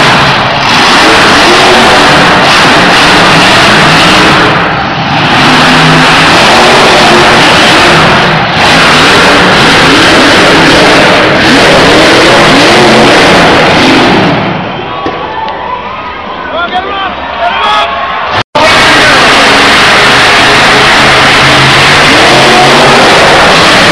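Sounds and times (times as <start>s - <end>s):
truck engines revving hard: 0.0s - 17.4s, 18.1s - 23.9s.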